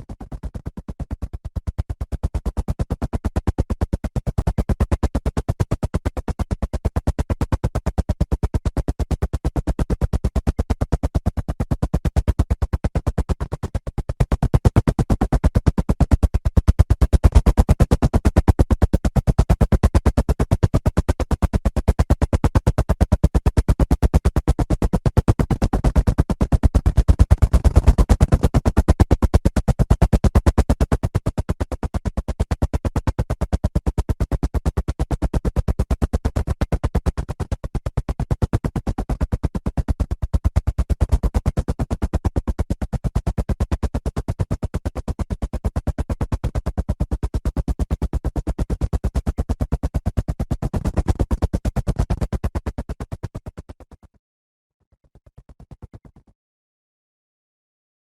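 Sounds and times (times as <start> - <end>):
helicopter rotor blades chopping: 0.0 - 37.1, 37.8 - 53.0.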